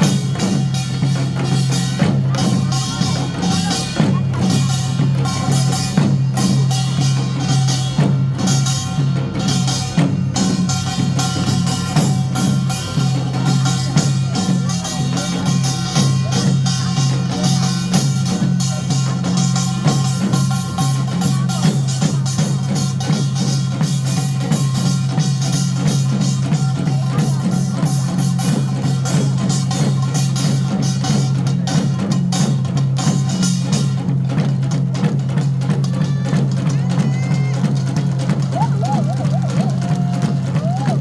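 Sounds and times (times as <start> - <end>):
fast drumming: 0.0 - 41.0.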